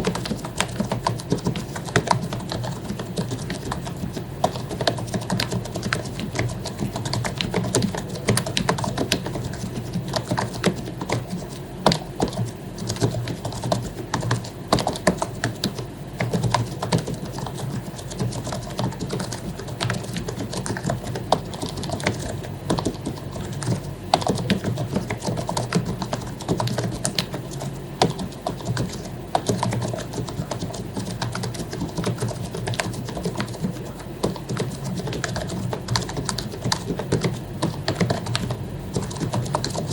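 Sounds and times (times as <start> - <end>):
fast keyboard typing: 0.0 - 39.9
low steady hum: 0.0 - 39.9.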